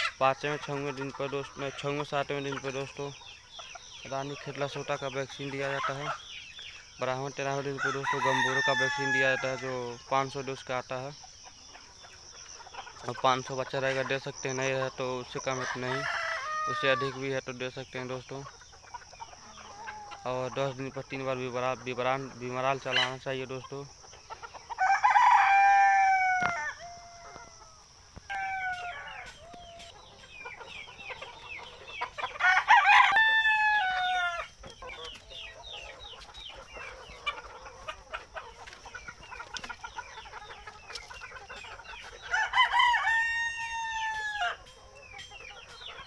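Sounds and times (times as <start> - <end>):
hens clucking and chattering: 0.0 - 46.0
roosters crowing: 0.0 - 46.0.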